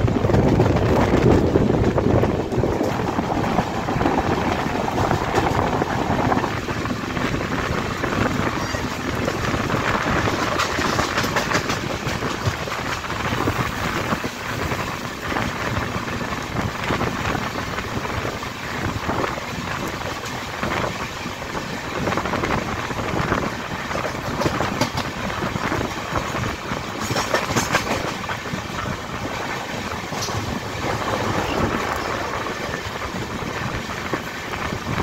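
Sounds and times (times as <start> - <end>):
train wheels rumbling on rails: 0.0 - 35.0
wind noise: 0.0 - 35.0.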